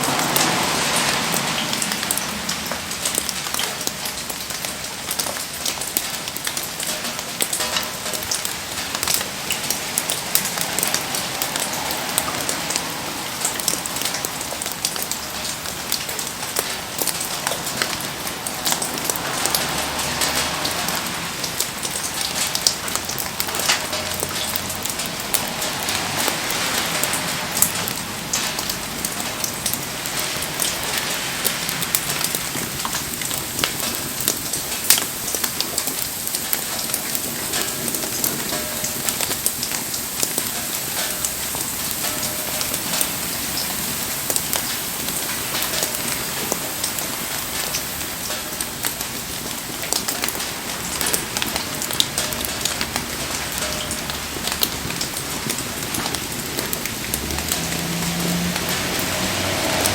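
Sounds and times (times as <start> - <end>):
campfire crackling and popping: 0.0 - 59.9
rain pattering: 0.0 - 59.9.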